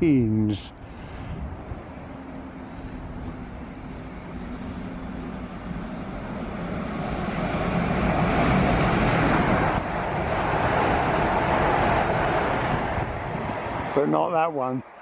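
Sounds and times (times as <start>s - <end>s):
train rushing through station: 0.0s - 15.0s.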